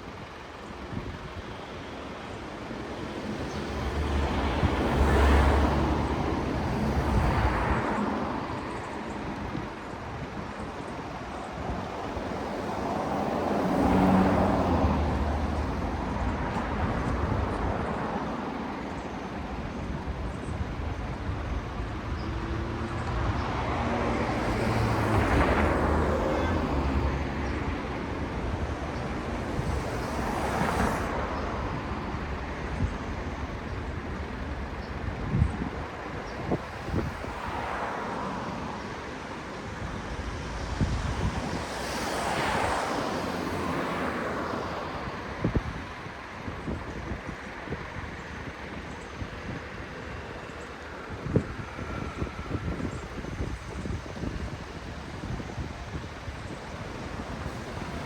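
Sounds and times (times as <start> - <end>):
background traffic: 0.0 - 58.0
cars passing: 0.0 - 58.0.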